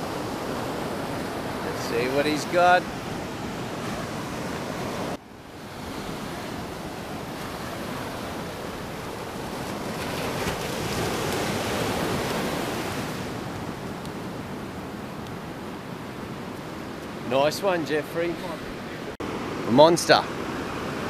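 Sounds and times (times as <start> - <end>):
ocean surf washing over sand: 0.0 - 21.0.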